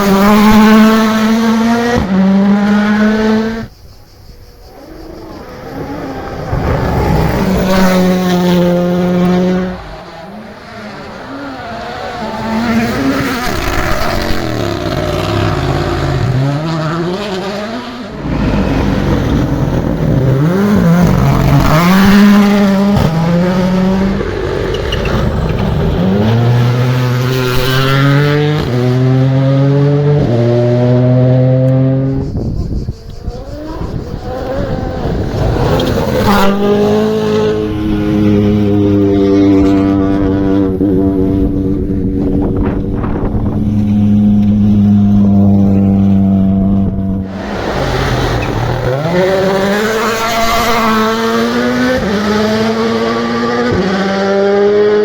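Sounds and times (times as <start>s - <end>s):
rally car engines revving: 0.0s - 3.8s, 4.6s - 55.0s.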